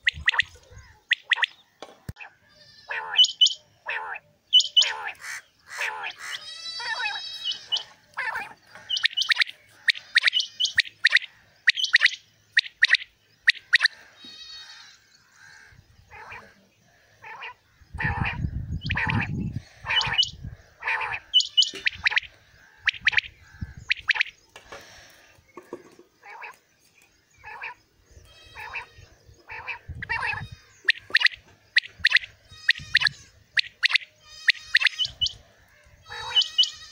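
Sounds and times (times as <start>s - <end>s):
quails calling: 0.0s - 26.6s, 27.4s - 36.9s.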